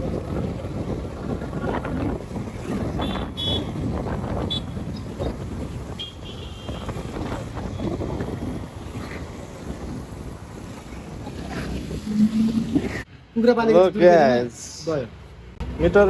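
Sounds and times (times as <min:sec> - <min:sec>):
wind buffeting microphone: 0:00.0 - 0:13.1
outdoor background rumble: 0:00.0 - 0:14.4.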